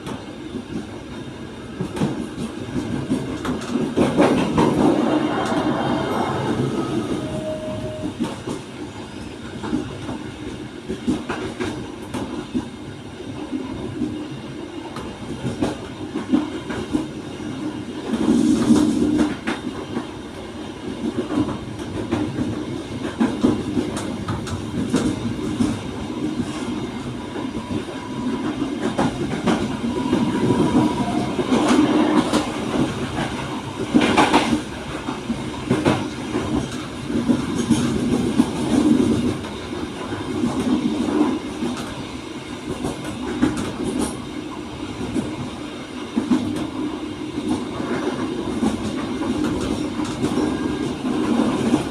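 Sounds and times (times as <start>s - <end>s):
train rumbling on track: 0.0s - 51.9s.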